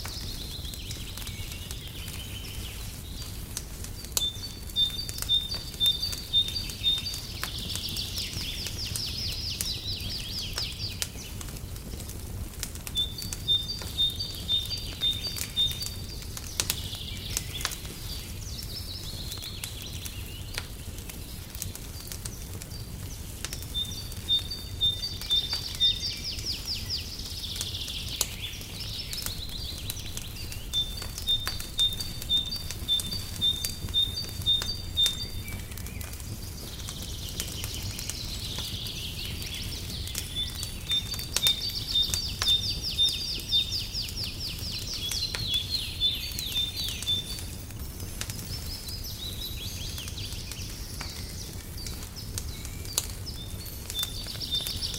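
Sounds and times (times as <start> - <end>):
songbirds singing trills: 0.0 - 54.9
wood fire crackling: 0.0 - 54.9.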